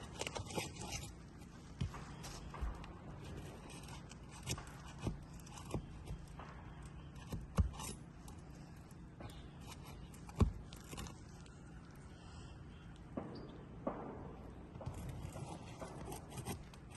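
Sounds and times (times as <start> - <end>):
shingles knocking and scraping: 0.0 - 11.4, 14.8 - 16.9.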